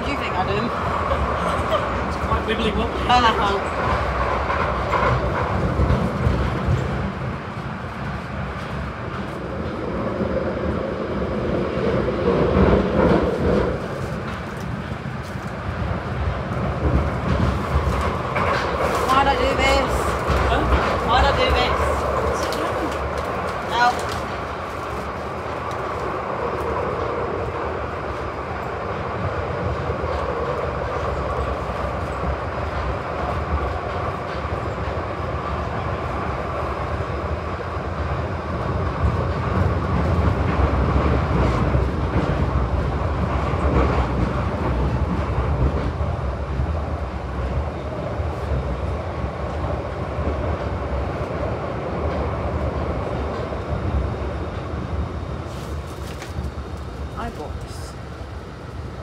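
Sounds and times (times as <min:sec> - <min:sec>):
subway train rumbling and rattling: 0:00.0 - 0:59.0.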